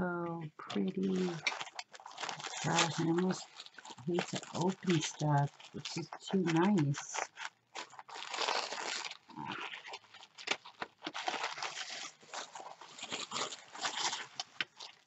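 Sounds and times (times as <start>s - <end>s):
tissue paper rustling and crinkling: 0.7s - 15.0s.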